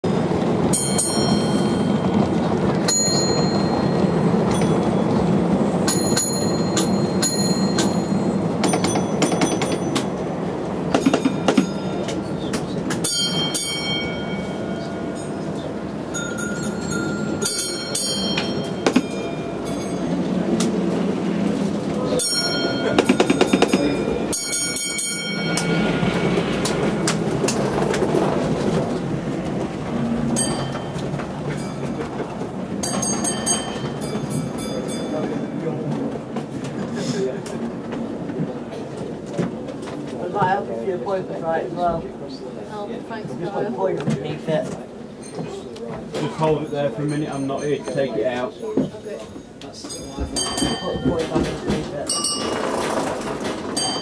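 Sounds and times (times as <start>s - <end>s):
crowd chatter: 10.0s - 54.0s.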